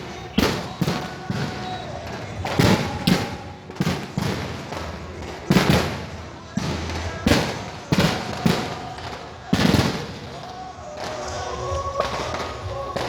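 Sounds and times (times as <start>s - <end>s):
fireworks bursting with echo: 0.0s - 13.0s.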